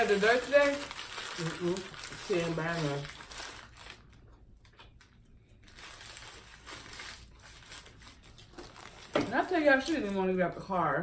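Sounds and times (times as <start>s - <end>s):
soft eating clicks and rustles: 0.5s - 10.3s.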